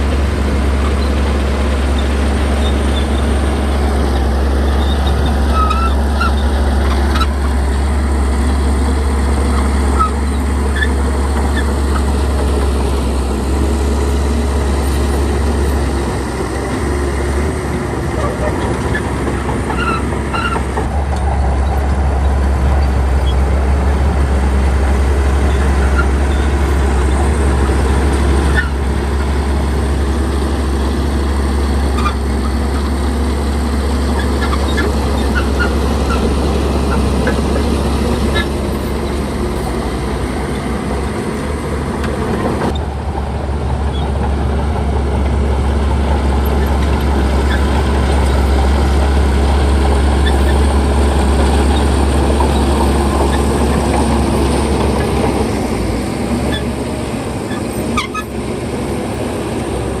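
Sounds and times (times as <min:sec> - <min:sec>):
heavy diesel machinery running: 0:00.0 - 1:00.0.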